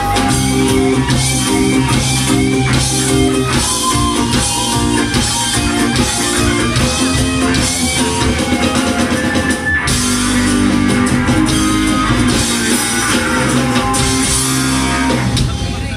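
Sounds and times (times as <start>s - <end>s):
live rock band playing: 0.0s - 15.9s.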